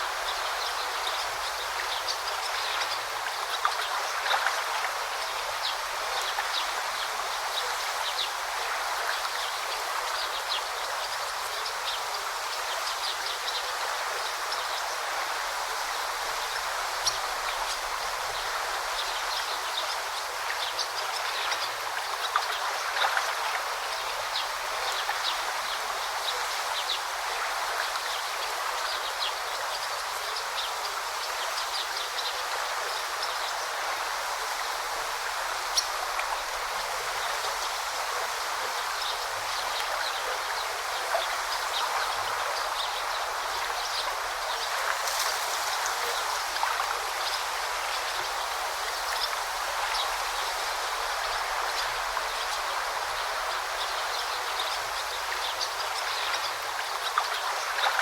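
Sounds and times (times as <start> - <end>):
river babbling over stones: 0.0 - 58.0.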